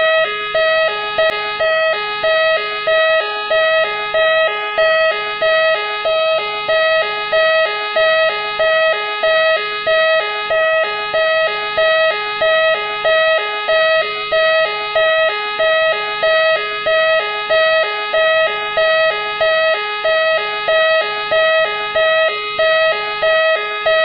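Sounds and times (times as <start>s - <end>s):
police car siren: 0.0s - 24.0s.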